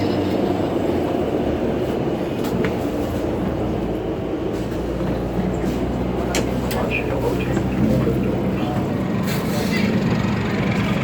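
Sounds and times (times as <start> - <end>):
bus rumble: 0.0 - 11.0.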